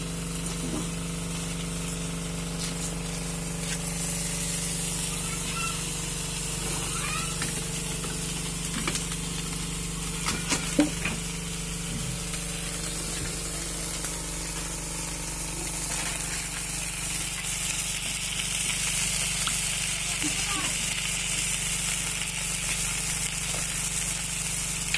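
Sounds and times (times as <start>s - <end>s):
fish sizzling in hot oil: 0.0s - 24.9s.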